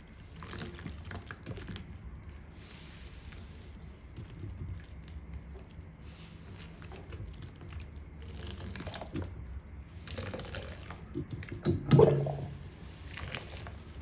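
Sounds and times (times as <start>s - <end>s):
wet sponges squelching: 0.0s - 11.2s, 11.9s - 14.0s.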